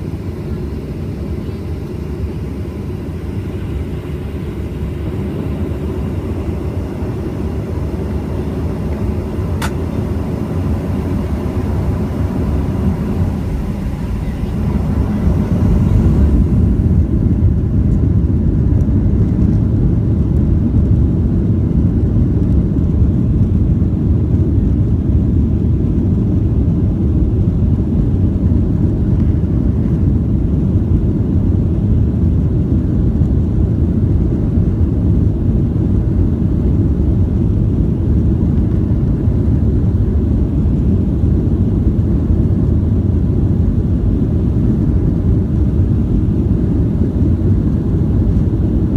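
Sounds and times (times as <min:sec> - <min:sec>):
jet engines and airflow rumbling: 0:00.0 - 0:48.9.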